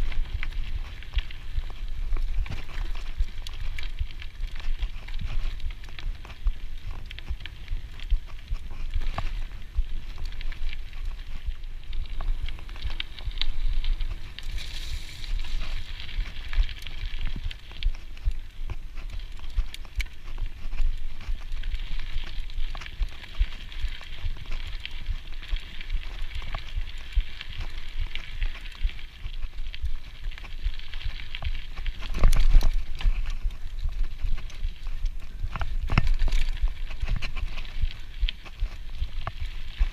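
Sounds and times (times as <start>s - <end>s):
bike rattles and clicks: 0.0s - 39.9s
bike tyres crackling over dirt: 0.0s - 39.9s.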